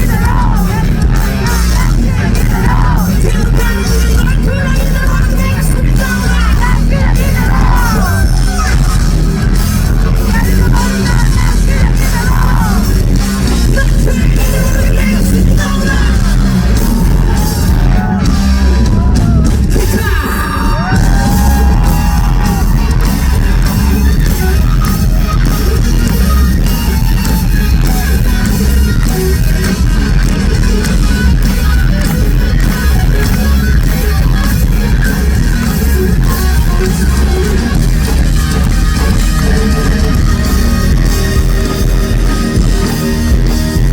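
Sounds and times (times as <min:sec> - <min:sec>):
live rock band playing: 0:00.0 - 0:43.9.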